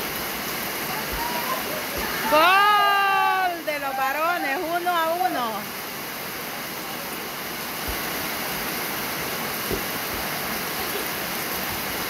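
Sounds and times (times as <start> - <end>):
rain falling: 0.0 - 12.0
water pouring off roof edge: 0.0 - 12.0.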